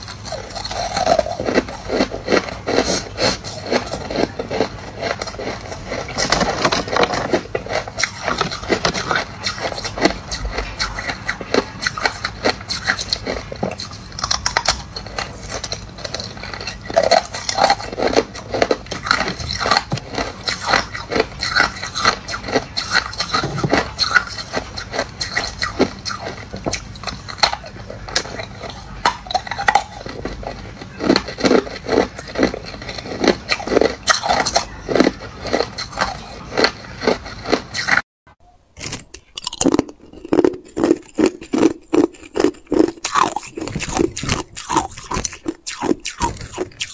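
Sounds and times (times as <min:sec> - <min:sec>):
ice crunching while chewed: 0:00.0 - 0:38.0, 0:38.8 - 0:46.9.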